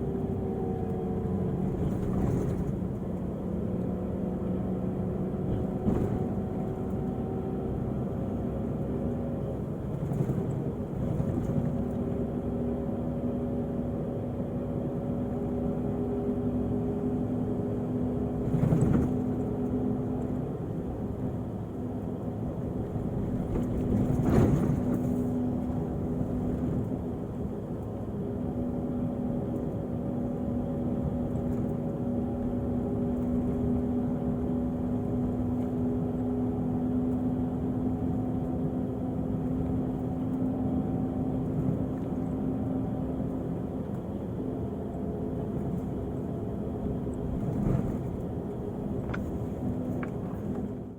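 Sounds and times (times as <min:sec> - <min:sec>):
diesel coach engine droning: 0:00.0 - 0:50.9.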